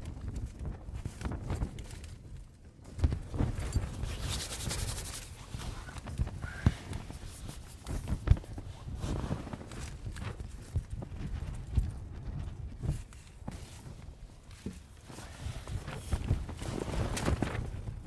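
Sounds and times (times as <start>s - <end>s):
rustling: 0.1s - 18.0s.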